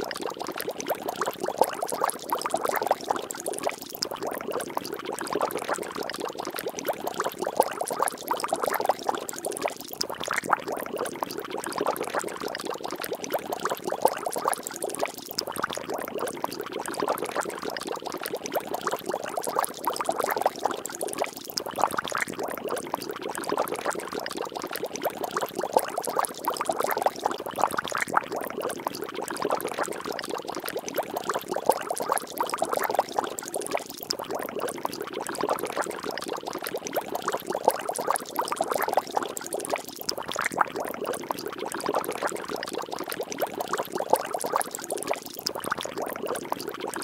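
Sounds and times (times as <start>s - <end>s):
water bubbling and splashing: 0.0s - 47.0s.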